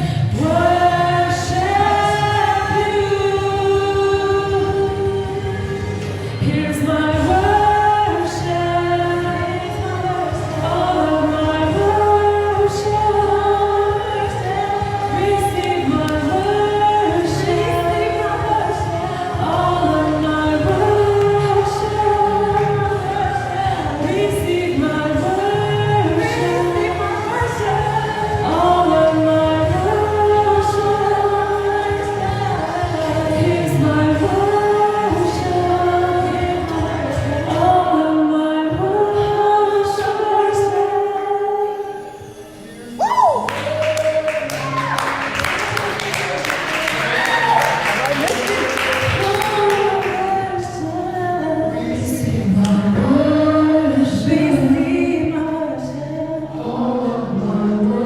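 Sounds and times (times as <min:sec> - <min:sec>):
person singing worship song: 0:00.0 - 0:58.0.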